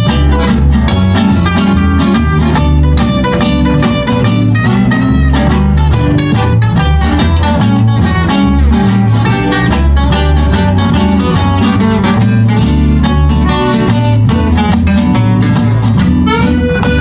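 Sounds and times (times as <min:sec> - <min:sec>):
accordion: 0:00.0 - 0:17.0
acoustic guitar strumming: 0:00.0 - 0:17.0
double bass walking: 0:00.0 - 0:17.0
mandolin: 0:00.0 - 0:17.0.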